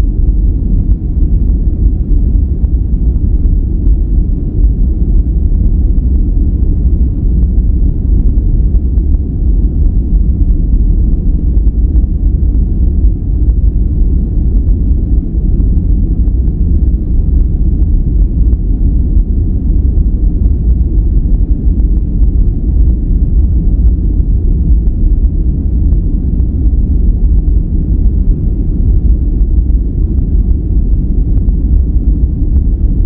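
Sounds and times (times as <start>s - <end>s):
deep rumbling brown noise: 0.0s - 33.0s.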